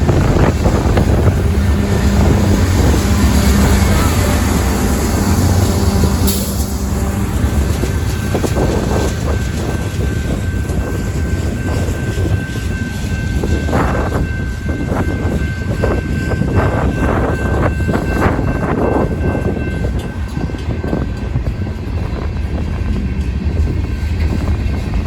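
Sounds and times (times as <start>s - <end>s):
freight train rolling past: 0.0s - 25.0s
wind on microphone: 0.0s - 25.0s.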